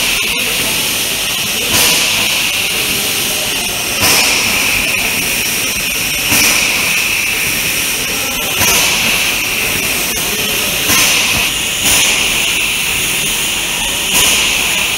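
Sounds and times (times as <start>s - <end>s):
food-processing machinery hissing: 0.0s - 14.9s.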